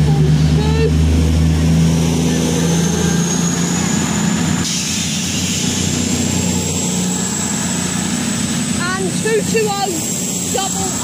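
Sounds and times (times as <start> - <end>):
diesel train engine hum: 0.0 - 11.0
high whine rising in pitch: 0.0 - 11.0.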